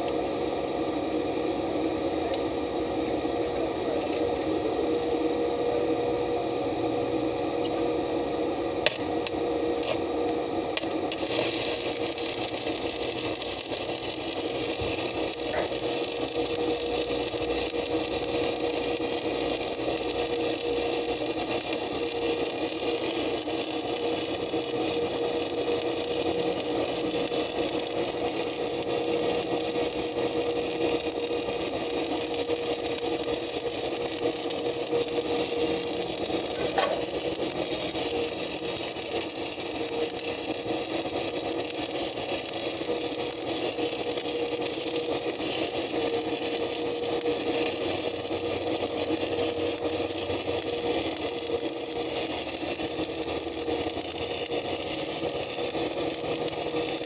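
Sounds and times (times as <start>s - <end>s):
welding arc crackling: 8.8s - 10.0s, 10.8s - 57.0s.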